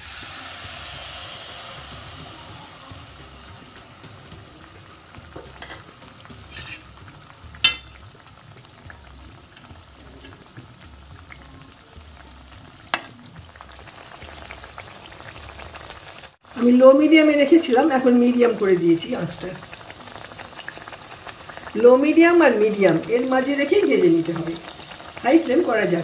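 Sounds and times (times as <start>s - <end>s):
batter sizzling in hot oil: 0.0s - 26.0s.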